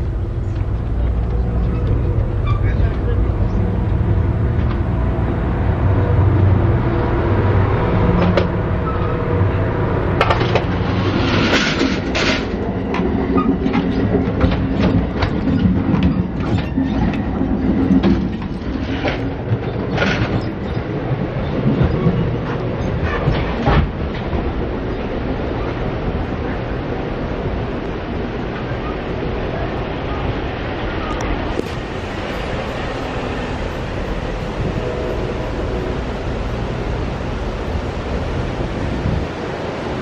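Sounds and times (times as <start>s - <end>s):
train low rumble: 0.0s - 40.0s.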